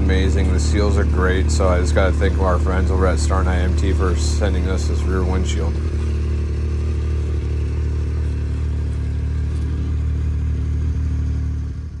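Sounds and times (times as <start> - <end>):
side-by-side engine running: 0.0 - 12.0.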